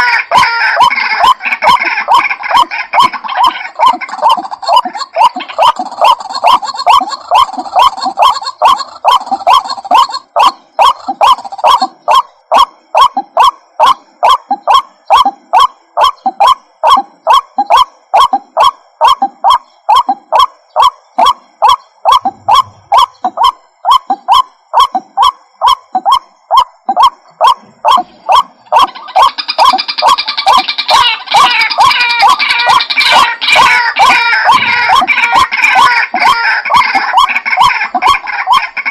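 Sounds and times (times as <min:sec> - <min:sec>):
higher bird calls: 0:00.0 - 0:38.9
waterhen croaking calls: 0:00.0 - 0:38.9.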